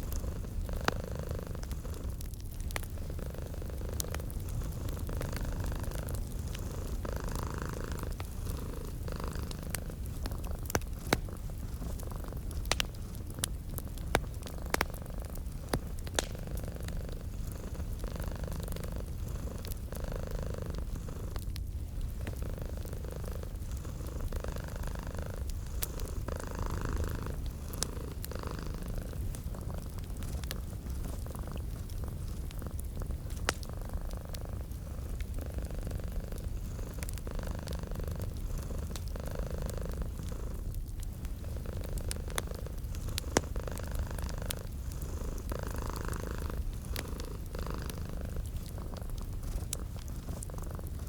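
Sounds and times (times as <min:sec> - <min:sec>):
cat purring: 0:00.0 - 0:51.0
wood fire crackling and popping: 0:00.0 - 0:51.0.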